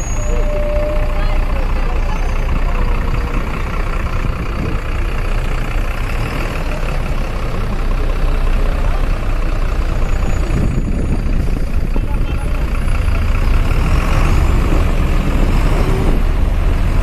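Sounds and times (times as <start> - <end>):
bus engine: 0.0 - 17.0
street traffic: 0.0 - 17.0.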